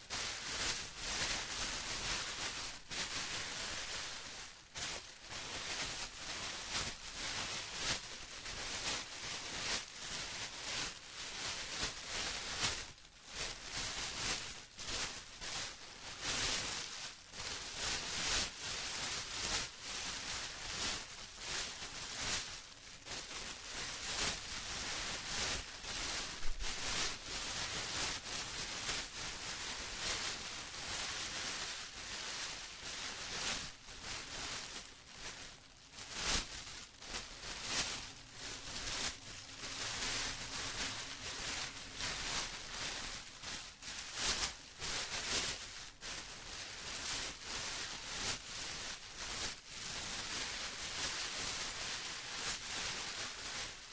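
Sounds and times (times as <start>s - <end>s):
plastic crumpling and rustling: 0.0s - 53.9s.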